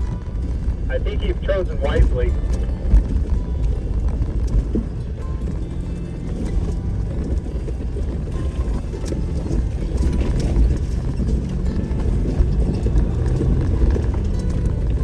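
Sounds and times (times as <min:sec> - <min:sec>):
off-road vehicle rumble: 0:00.0 - 0:15.0.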